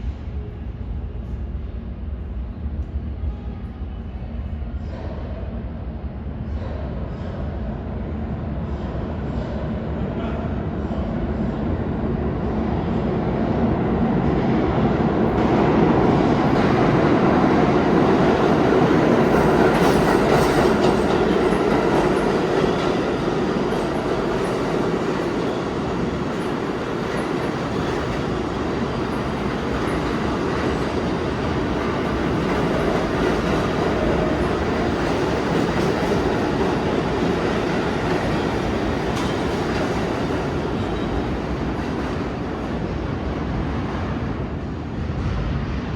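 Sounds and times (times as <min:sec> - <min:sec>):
subway train rumbling: 0:00.0 - 0:45.9.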